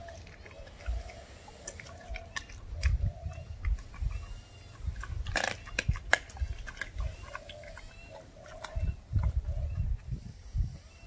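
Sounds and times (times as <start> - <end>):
dog chewing and crunching bone: 0.0 - 10.2.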